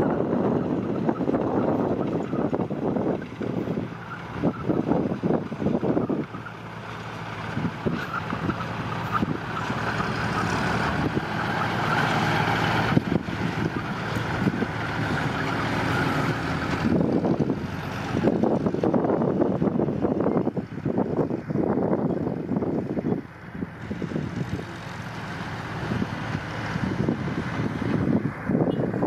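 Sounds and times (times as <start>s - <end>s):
dump truck engine running: 0.0s - 29.0s
wind buffeting microphone: 0.0s - 29.0s.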